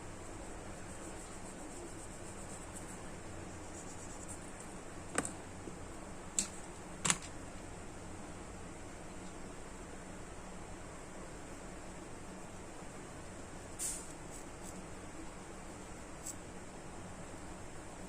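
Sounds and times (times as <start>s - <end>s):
steady faint hiss: 0.0s - 18.0s.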